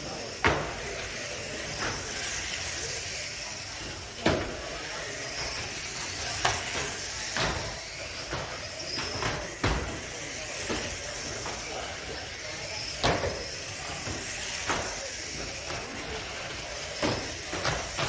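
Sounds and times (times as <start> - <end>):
toy car motors whining: 0.0 - 18.0
toy car collision knocks: 0.3 - 3.0, 4.1 - 12.1, 12.7 - 18.0.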